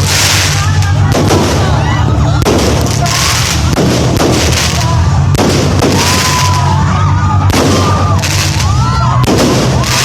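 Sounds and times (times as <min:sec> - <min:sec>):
fireworks bursting with hiss: 0:00.0 - 0:10.0.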